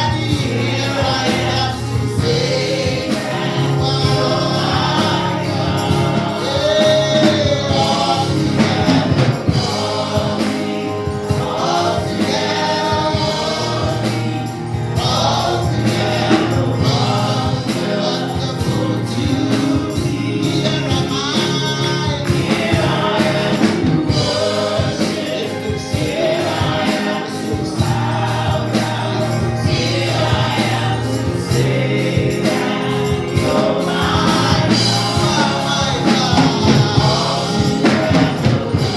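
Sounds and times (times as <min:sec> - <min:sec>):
band accompaniment: 0:00.0 - 0:38.9
choir singing gospel: 0:00.0 - 0:38.9.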